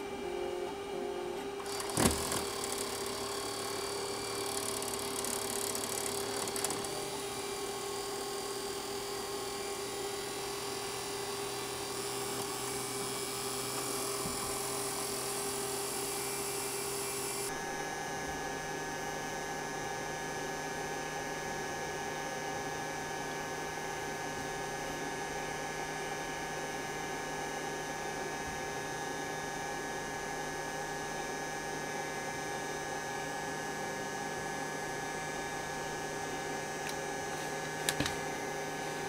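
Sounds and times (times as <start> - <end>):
steady hum of held tones: 0.0 - 39.0.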